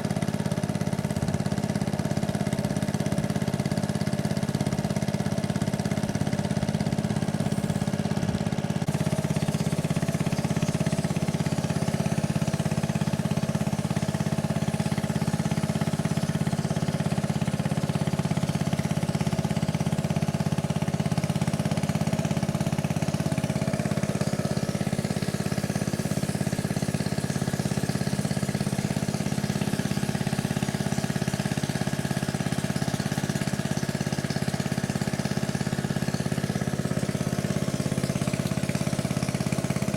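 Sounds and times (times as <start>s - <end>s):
motorboat engine humming: 0.0s - 39.9s
water rushing around hull: 2.7s - 39.9s.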